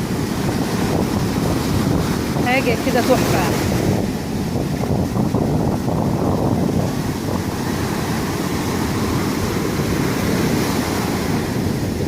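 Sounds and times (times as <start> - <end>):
sea waves washing in: 0.0 - 12.0
wind buffeting microphone: 0.0 - 12.0.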